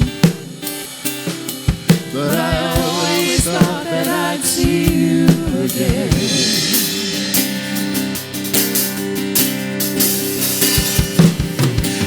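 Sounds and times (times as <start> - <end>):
drum kit beat: 0.0 - 12.0
strummed acoustic guitar: 0.0 - 12.0.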